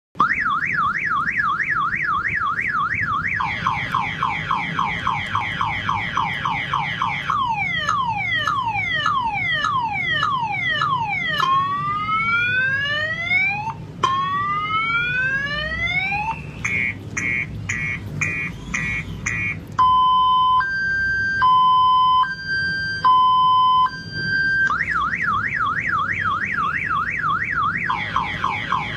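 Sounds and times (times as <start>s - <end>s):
multi-tone car alarm siren: 0.2s - 28.9s.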